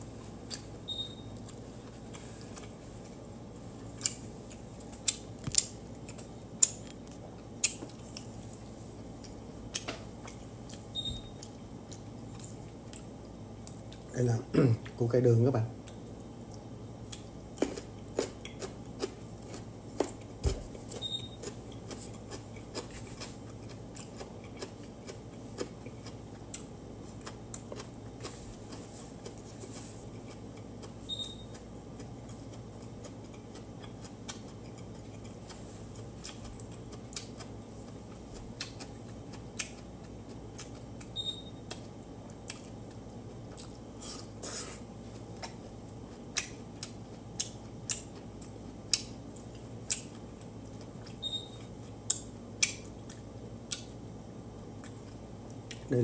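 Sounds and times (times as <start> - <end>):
person chewing: 0.0 - 0.8, 1.4 - 14.1, 15.8 - 54.0, 54.6 - 55.9
steady low hum: 0.0 - 56.0.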